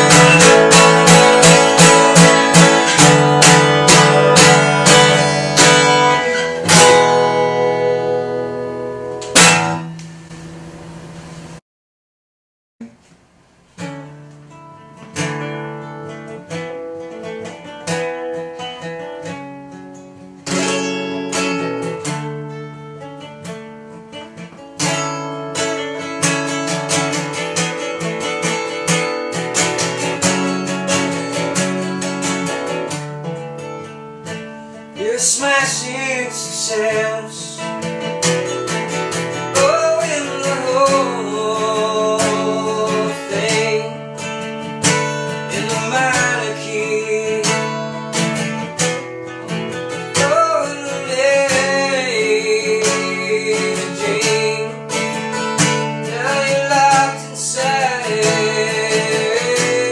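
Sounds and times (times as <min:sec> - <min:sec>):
acoustic guitar playing: 0:00.0 - 0:11.6, 0:12.8 - 0:59.9.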